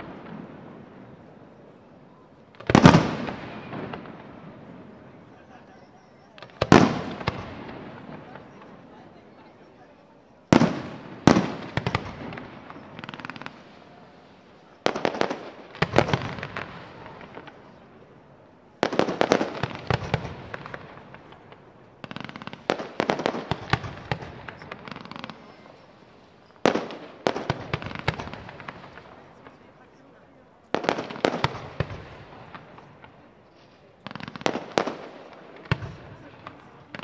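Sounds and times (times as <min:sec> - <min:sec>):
fireworks bursting with crackles: 0:00.0 - 0:37.0.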